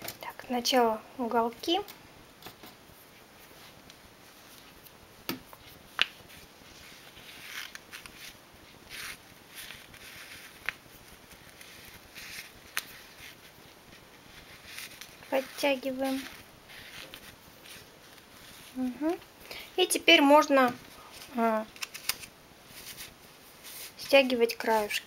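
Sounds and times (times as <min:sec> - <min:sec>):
thread rustling through knitting: 0:02.7 - 0:25.0.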